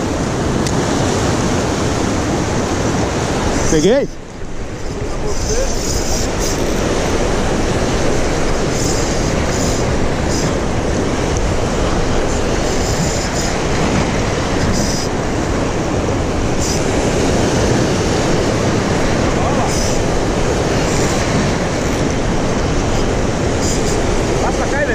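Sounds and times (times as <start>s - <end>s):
surf breaking over rocks: 0.0s - 24.9s
wind buffeting microphone: 0.0s - 24.9s.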